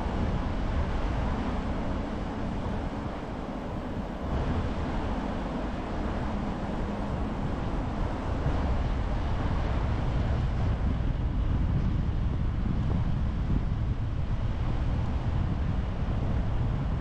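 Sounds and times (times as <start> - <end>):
car engine and road rumble: 0.0 - 17.0
wind noise: 0.0 - 17.0.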